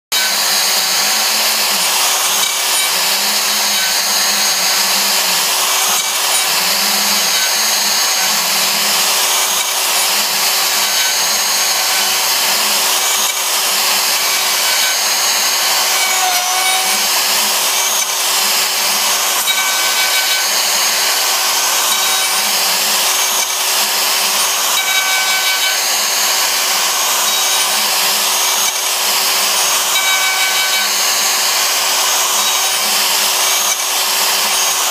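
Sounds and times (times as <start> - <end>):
bit cutting through plywood: 0.1 - 34.9
router spindle whine: 0.1 - 34.9.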